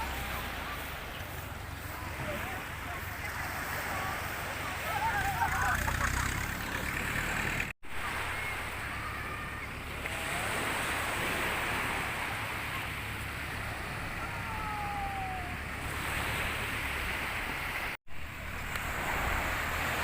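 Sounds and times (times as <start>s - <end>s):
sea surf washing onto beach: 0.0s - 20.0s.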